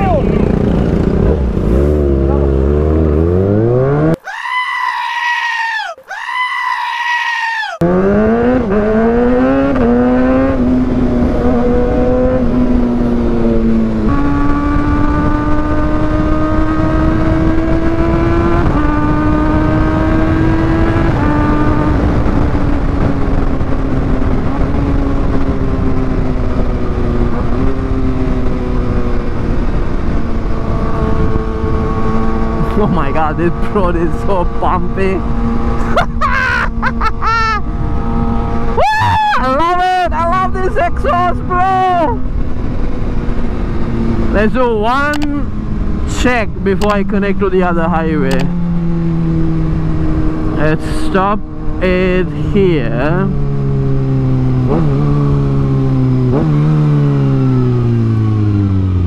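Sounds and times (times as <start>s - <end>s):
motorcycle engine revving: 0.0s - 4.2s, 7.8s - 59.0s.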